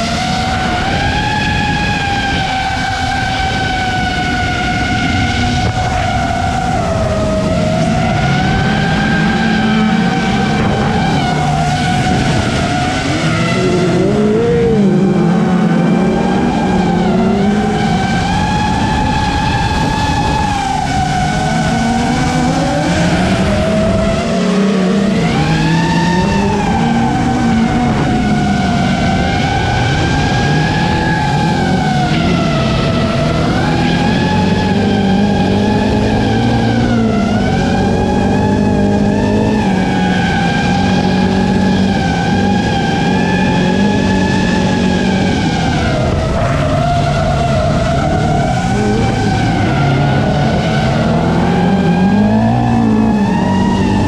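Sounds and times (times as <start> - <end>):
motors whining: 0.0 - 54.0.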